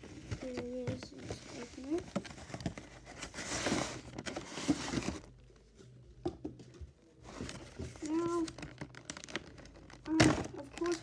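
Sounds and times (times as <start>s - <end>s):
packaging rustling and scraping: 0.0s - 5.4s, 7.2s - 11.0s.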